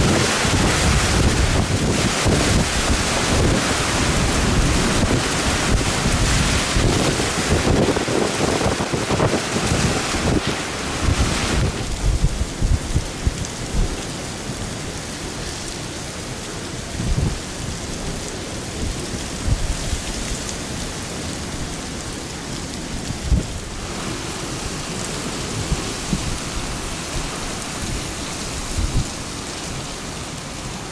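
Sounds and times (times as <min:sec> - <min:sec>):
wind buffeting microphone: 0:00.0 - 0:15.6, 0:16.8 - 0:20.5, 0:22.9 - 0:30.4
heavy rain: 0:00.0 - 0:30.9
wind: 0:00.0 - 0:30.9.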